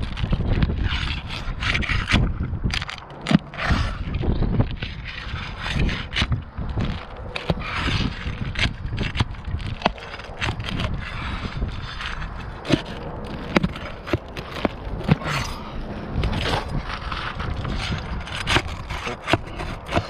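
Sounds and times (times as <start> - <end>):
shingles being scraped: 0.0 - 20.0.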